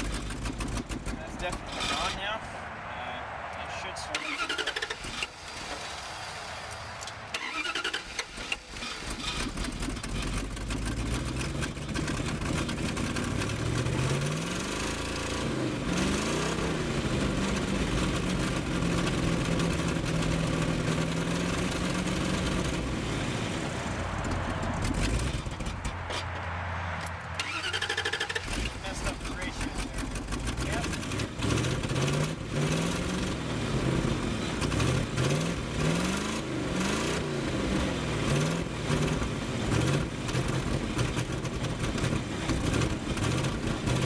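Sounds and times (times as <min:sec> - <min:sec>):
truck engine revving: 0:00.0 - 0:02.4, 0:03.3 - 0:44.0.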